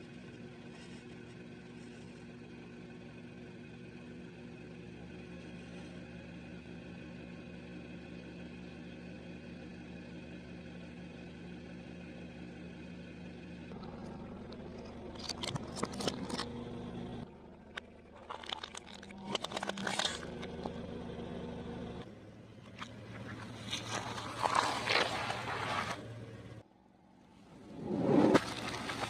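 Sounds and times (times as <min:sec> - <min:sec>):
low car cabin hum: 0:00.0 - 0:29.0.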